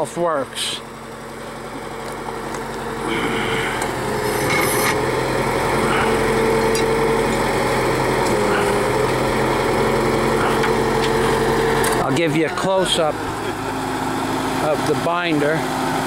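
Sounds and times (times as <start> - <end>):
drill rig engine running: 0.0 - 16.0.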